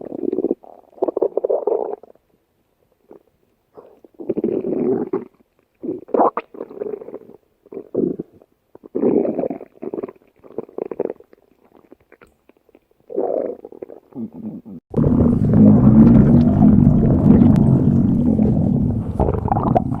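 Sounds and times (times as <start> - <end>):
stomach growling: 0.0 - 2.2, 3.1 - 20.0.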